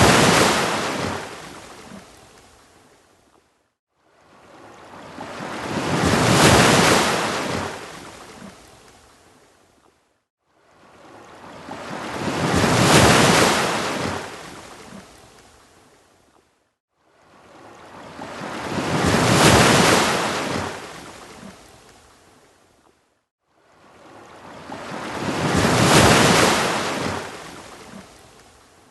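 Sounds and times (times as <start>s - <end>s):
ocean waves washing up beach: 0.0s - 3.0s, 4.0s - 9.5s, 10.5s - 16.0s, 17.1s - 22.6s, 23.6s - 28.9s.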